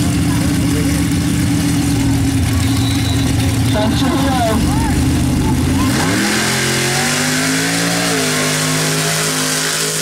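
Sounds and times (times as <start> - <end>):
buggy engine revving: 0.0 - 10.0
tyres churning through mud: 0.0 - 10.0.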